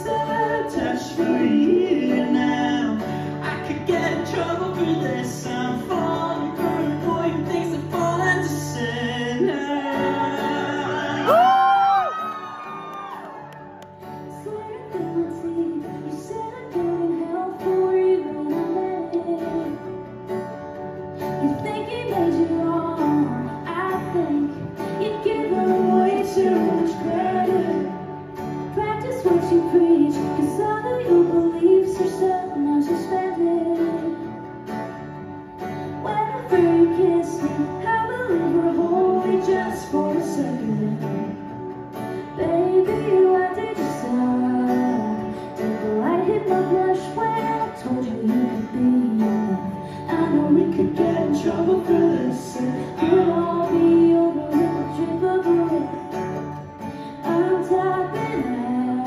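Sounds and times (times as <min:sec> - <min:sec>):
woman singing: 0:00.0 - 0:13.5, 0:14.2 - 0:20.4, 0:21.2 - 0:34.6, 0:35.8 - 0:41.5, 0:42.2 - 0:59.0
acoustic guitar: 0:00.0 - 0:59.0.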